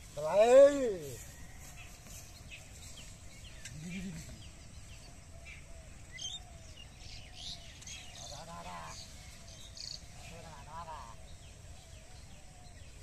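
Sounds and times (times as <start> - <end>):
birds chirping: 0.0 - 13.0
low outdoor background: 0.0 - 13.0.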